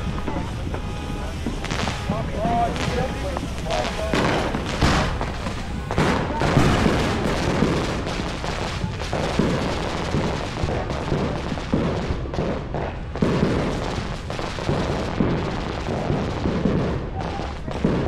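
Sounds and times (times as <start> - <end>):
fireworks bangs and pops: 0.0 - 18.0
fountain firework crackling sparks: 0.0 - 18.0.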